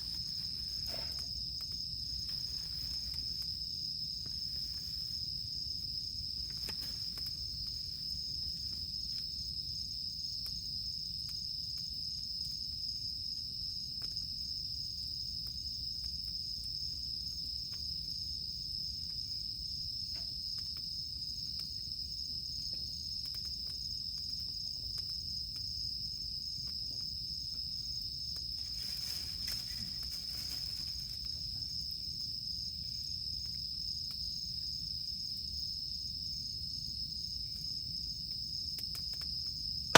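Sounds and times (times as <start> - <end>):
campfire crackling: 0.0 - 35.3
cicadas droning: 0.0 - 39.9.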